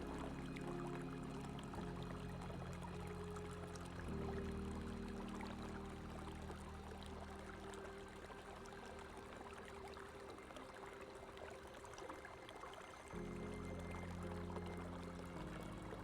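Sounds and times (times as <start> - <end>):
background music low notes: 0.0 - 16.0
running water: 0.0 - 16.0.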